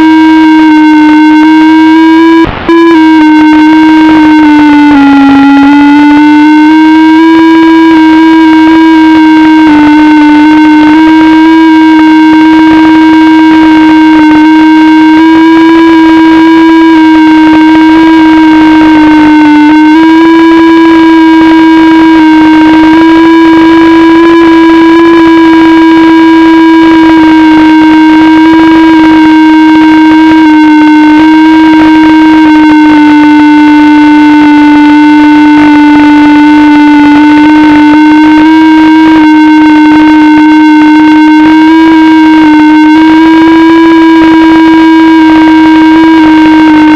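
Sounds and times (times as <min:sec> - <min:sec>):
drone motors humming: 0:00.0 - 0:46.9.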